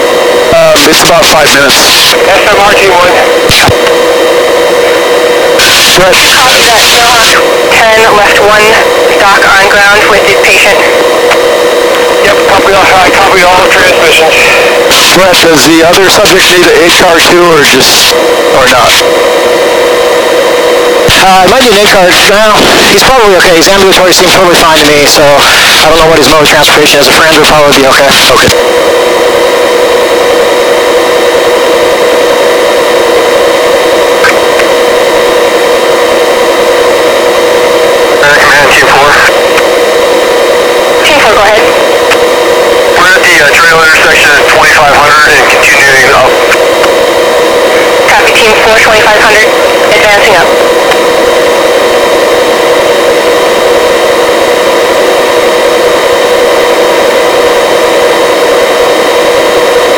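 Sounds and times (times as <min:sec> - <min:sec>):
helicopter rushing noise with whine: 0:00.0 - 0:59.9.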